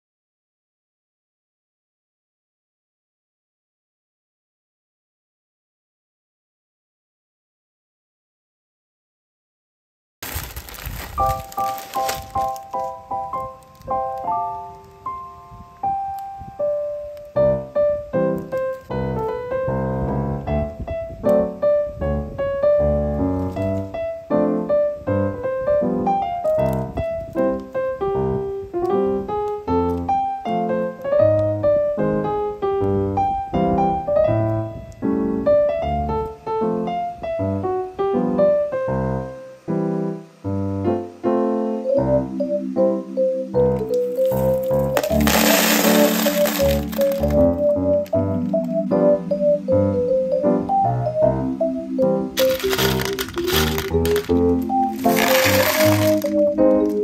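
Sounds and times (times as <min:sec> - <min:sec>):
piano music: 0:10.2 - 0:57.0.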